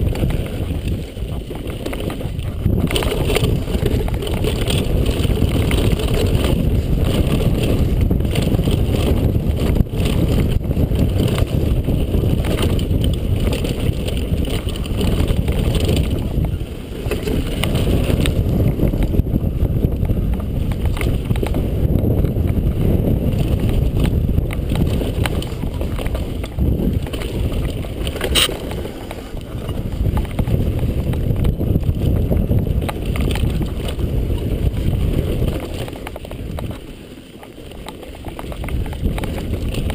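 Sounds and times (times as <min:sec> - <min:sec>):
bike rattling over bumps: 0:00.0 - 0:39.9
tyres on dirt and gravel: 0:00.0 - 0:39.9
wind rumbling on microphone: 0:00.0 - 0:39.9.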